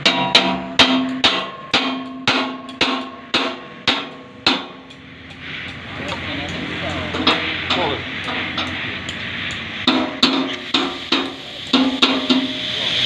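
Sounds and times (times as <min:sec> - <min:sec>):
hammer striking steel: 0:00.0 - 0:12.8.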